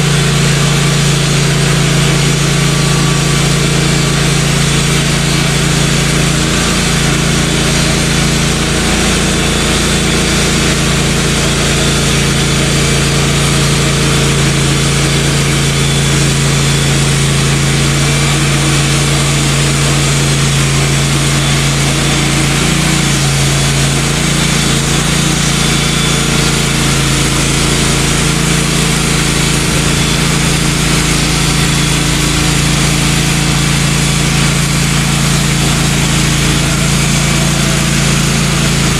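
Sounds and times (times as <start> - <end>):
band blade cutting log: 0.0 - 38.9
sawmill engine running: 0.0 - 38.9.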